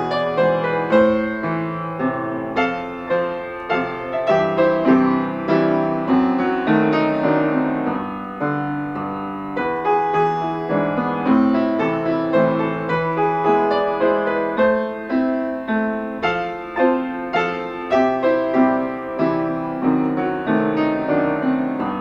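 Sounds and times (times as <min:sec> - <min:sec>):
slow gentle piano piece: 0:00.0 - 0:22.0.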